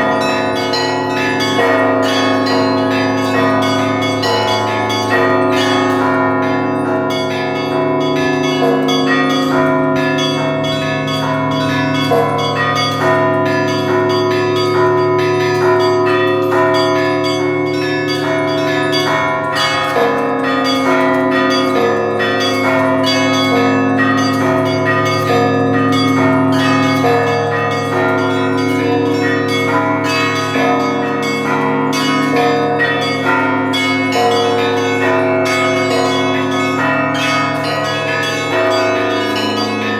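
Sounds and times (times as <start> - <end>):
deep bells ringing: 0.0 - 39.9
small high bells striking rapidly: 0.0 - 39.9.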